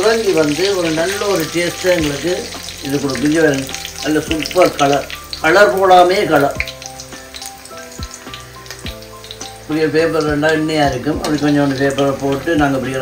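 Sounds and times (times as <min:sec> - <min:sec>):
food deep-frying in hot oil: 0:00.0 - 0:13.0
melodic singing voice or music: 0:00.5 - 0:13.0.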